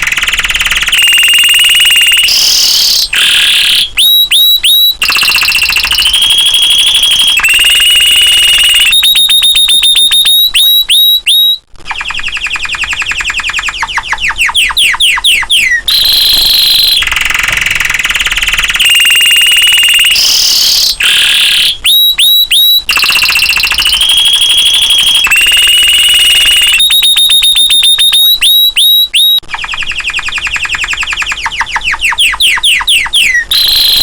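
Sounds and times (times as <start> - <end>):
canary singing in trills: 0.0 - 34.0.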